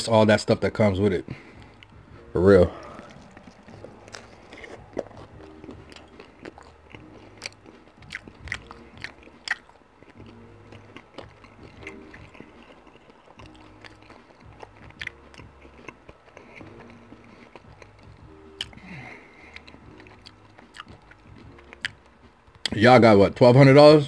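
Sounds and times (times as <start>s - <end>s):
man chewing food: 1.3s - 22.8s.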